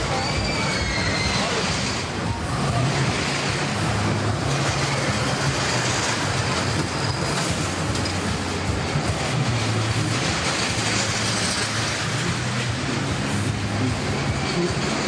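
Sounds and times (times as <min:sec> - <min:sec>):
fairground din: 0:00.0 - 0:15.0
roller coaster car rolling on track: 0:00.0 - 0:15.0.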